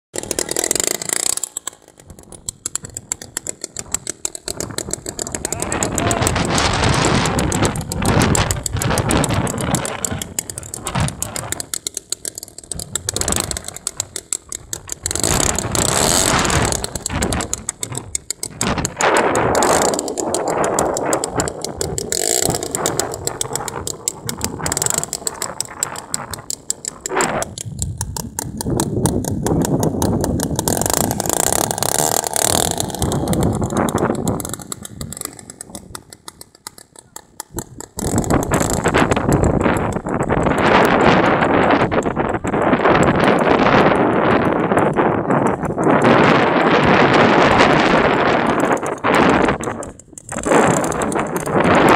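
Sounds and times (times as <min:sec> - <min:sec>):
model airplane engine running: 0:00.1 - 0:51.9.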